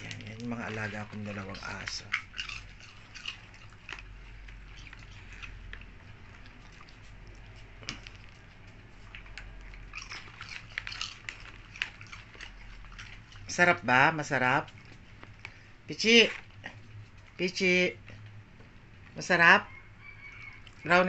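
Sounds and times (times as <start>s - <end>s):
dogs crunching popcorn: 0.0s - 19.4s.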